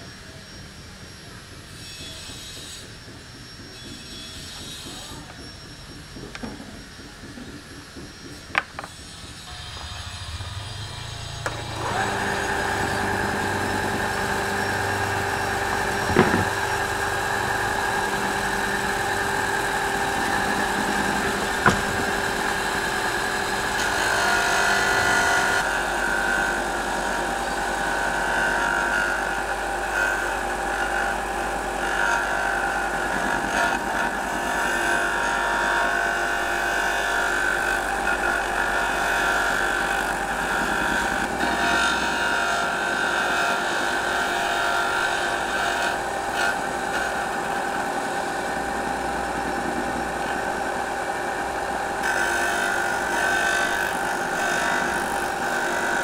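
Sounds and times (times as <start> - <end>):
sander motor humming: 2.9 - 56.0.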